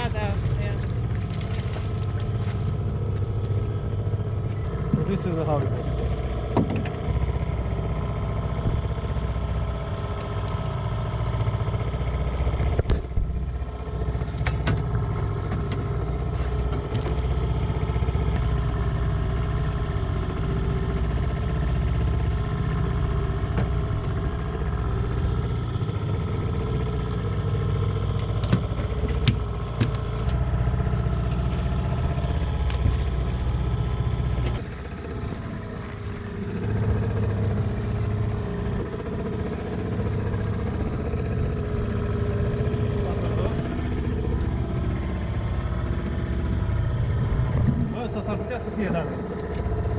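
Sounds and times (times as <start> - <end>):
boat engine humming: 0.0 - 49.9.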